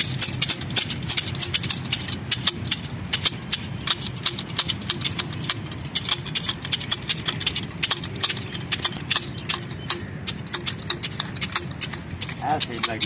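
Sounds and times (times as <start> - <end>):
hedge shears snipping: 0.0 - 13.0
steady low hum: 0.0 - 13.0.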